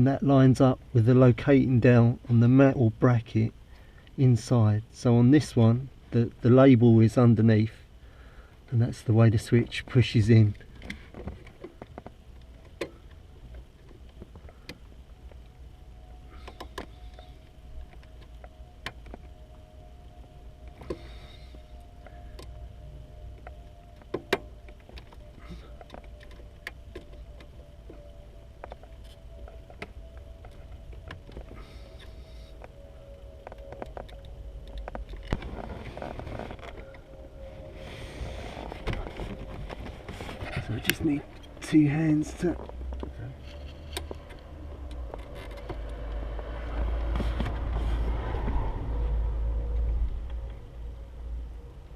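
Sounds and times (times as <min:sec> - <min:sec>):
low steady hum: 0:00.0 - 0:51.9
steady low rumble: 0:00.0 - 0:51.9.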